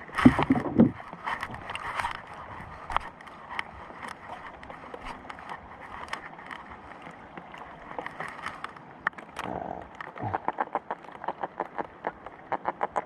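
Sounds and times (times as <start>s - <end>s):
raindrops tapping on a boat: 0.0s - 13.0s.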